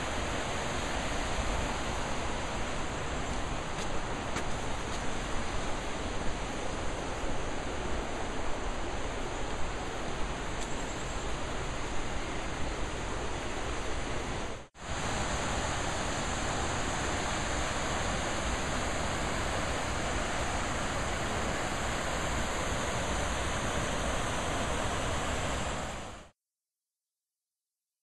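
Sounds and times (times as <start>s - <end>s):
river rushing over rapids: 0.0s - 26.3s.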